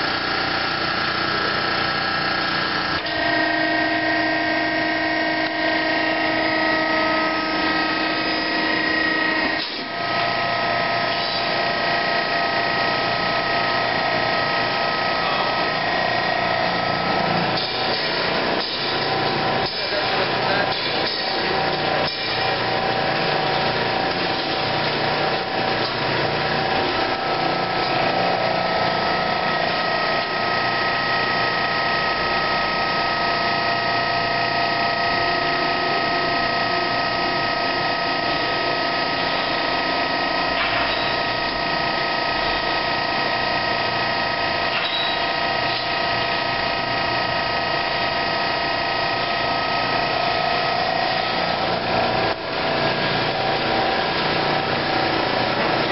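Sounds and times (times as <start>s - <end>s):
machine motor whine: 0.0s - 55.9s
mechanical noise: 0.0s - 55.9s.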